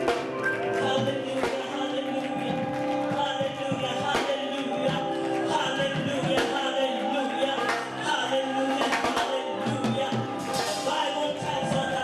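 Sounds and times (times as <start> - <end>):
drum and percussion hits: 0.0 - 6.8, 8.7 - 12.0
gospel singing: 0.0 - 12.0.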